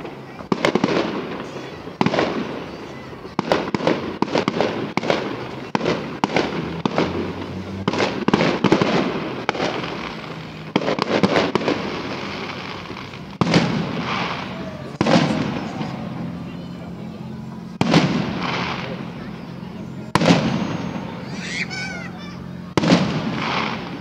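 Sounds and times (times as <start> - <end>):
fireworks bangs with echo: 0.0 - 24.0.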